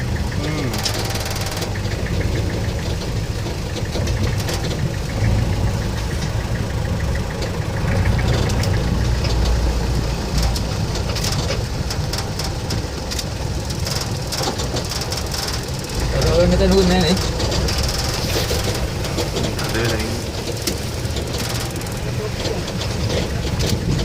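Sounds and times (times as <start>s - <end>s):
fast ticking clatter: 0.0s - 24.0s
jeep engine idling: 0.0s - 24.0s.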